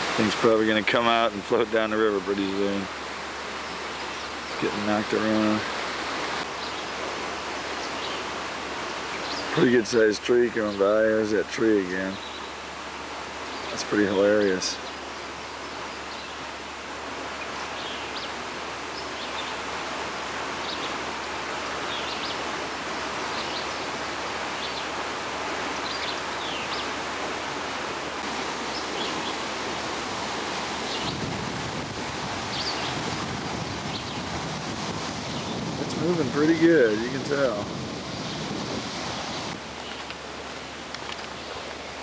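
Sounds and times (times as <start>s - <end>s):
fast-flowing river rushing: 0.0s - 42.0s.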